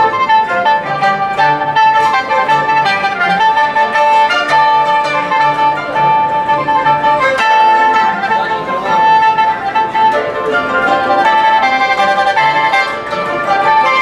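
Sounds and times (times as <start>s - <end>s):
bowed fiddle melody: 0.0s - 14.0s
plucked strings: 0.0s - 14.0s.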